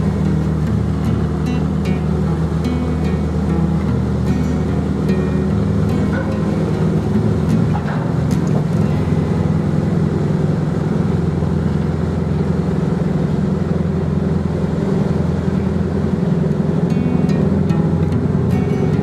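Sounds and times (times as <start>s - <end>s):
ferry engines droning: 0.0s - 19.0s.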